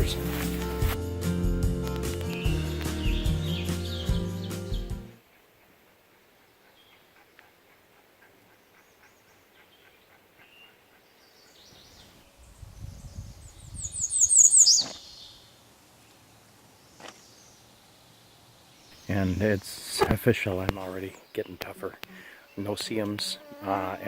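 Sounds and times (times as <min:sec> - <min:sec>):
songbird singing: 0:01.9 - 0:24.0
faint bird song: 0:02.3 - 0:24.0.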